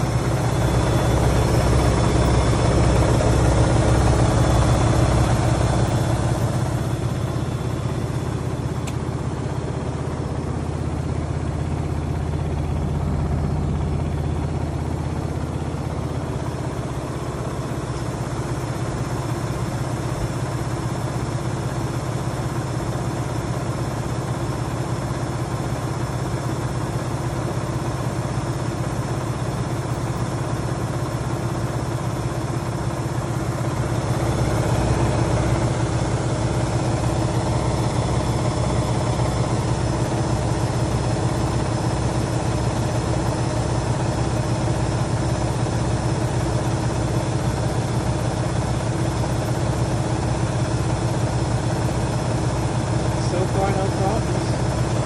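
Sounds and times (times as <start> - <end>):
washing machine spin cycle: 0.0 - 55.0.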